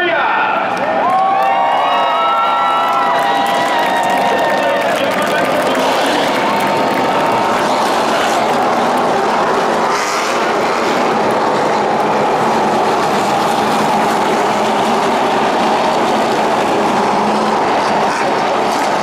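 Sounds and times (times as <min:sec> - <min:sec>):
truck engines droning: 0:00.0 - 0:19.0.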